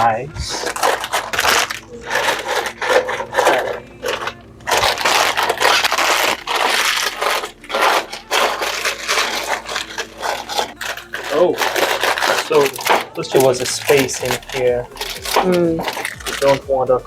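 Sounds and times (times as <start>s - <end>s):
plastic snack packets crinkling: 0.0s - 17.0s.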